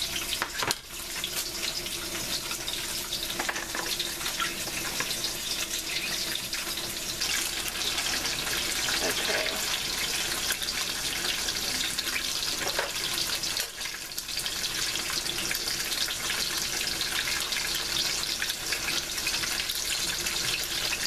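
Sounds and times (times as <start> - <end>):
tofu sizzling in hot oil: 0.0 - 21.0.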